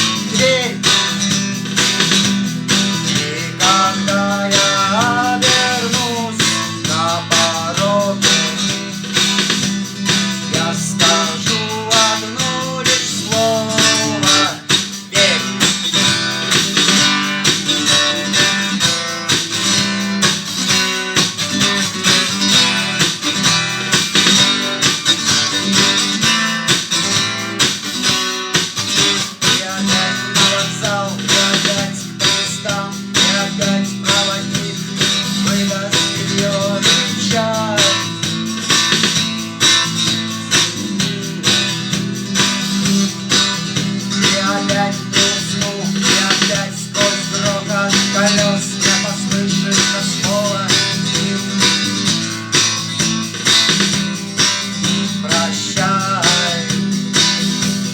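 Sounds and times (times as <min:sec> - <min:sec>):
acoustic guitar strumming: 0:00.0 - 0:57.9.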